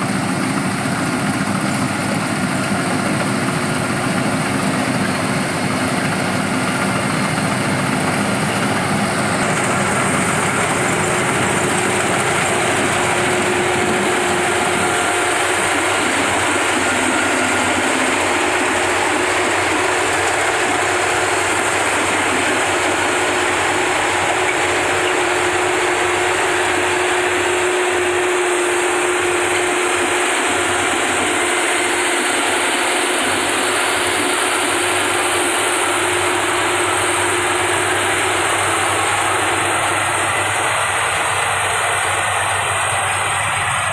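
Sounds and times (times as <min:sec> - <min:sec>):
harvesting machine running: 0:00.0 - 0:43.9.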